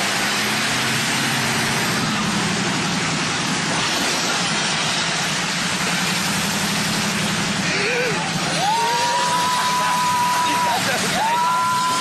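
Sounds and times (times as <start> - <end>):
car engine: 0.0 - 12.0
road noise: 0.0 - 12.0.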